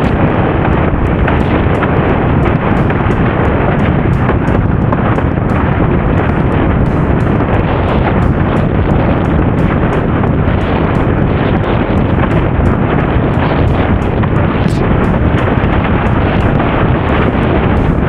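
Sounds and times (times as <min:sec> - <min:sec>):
short crackles: 0:00.0 - 0:18.0
wind noise on microphone: 0:00.0 - 0:18.0.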